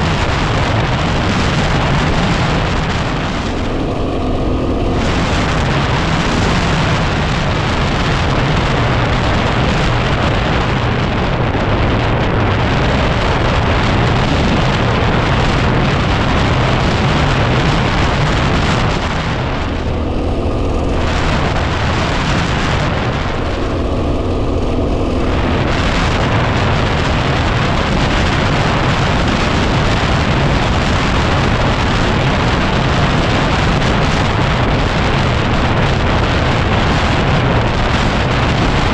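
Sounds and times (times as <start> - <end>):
motorcycle engine cruising: 0.0 - 38.9
wind buffeting microphone: 0.0 - 38.9.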